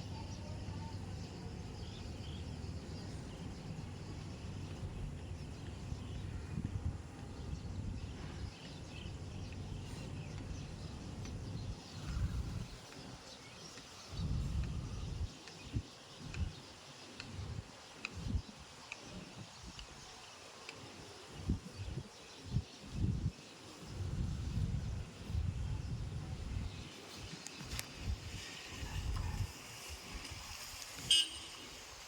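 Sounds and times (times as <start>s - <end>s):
wind buffeting microphone: 0.2s - 13.2s, 14.0s - 20.1s, 21.3s - 31.1s.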